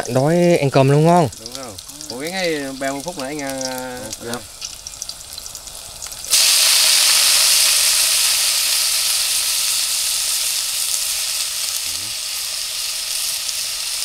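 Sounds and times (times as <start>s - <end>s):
greens sizzling in a hot pot: 0.0s - 14.0s.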